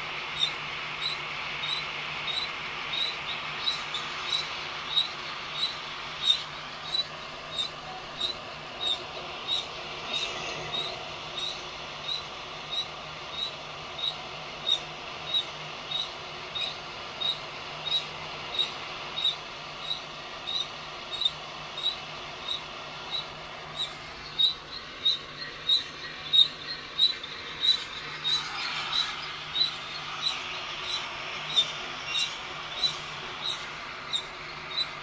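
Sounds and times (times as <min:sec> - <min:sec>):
rotating drum squeaking: 0:00.0 - 0:35.0
steady hiss: 0:00.0 - 0:35.0.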